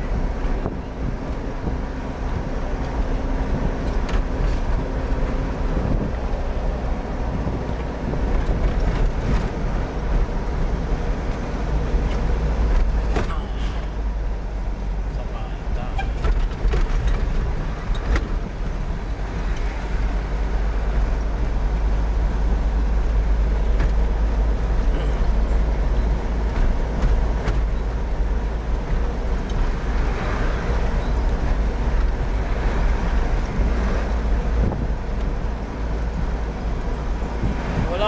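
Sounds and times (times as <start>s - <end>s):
vehicle engine and road rumble: 0.0s - 38.0s.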